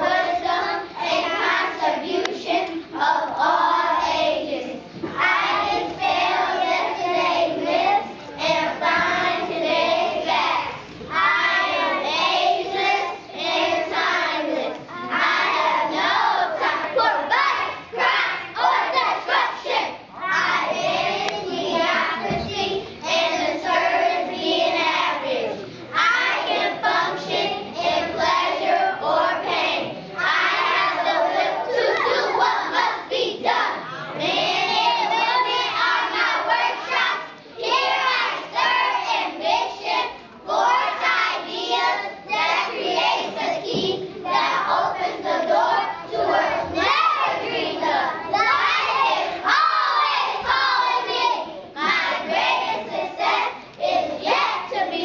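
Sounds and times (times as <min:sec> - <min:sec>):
children chanting in unison: 0:00.0 - 0:55.0.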